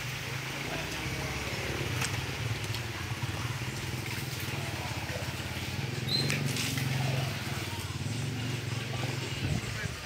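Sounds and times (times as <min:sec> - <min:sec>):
small engine rumbling: 0:00.0 - 0:10.0.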